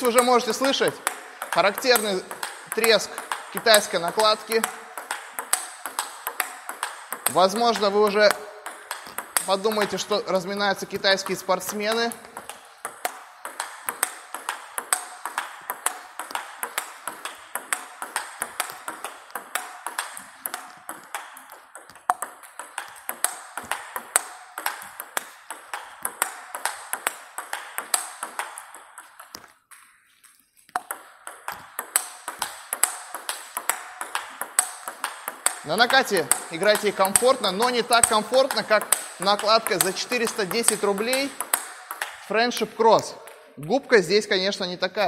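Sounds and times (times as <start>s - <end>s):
table tennis ball clicking: 0.0s - 29.9s, 30.7s - 43.5s.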